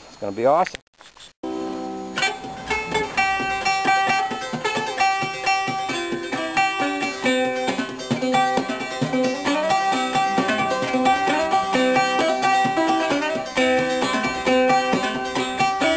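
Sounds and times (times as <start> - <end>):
banjo plucked notes: 1.5 - 15.9.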